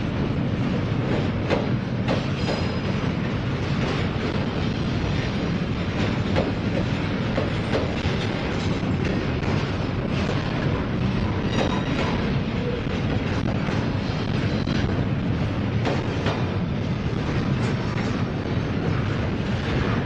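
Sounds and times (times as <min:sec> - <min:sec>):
freight train wheels rolling: 0:00.0 - 0:20.0
wheels clicking on rails: 0:00.3 - 0:20.0.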